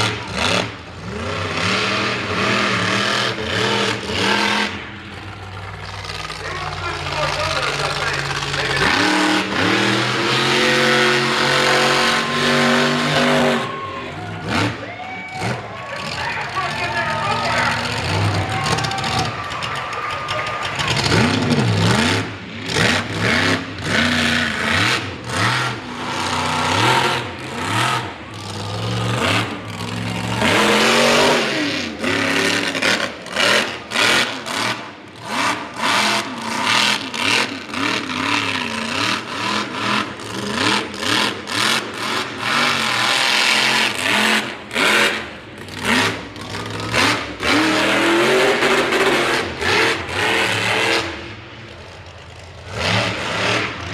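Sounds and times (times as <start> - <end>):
truck engine revving hard: 0.0 - 53.9.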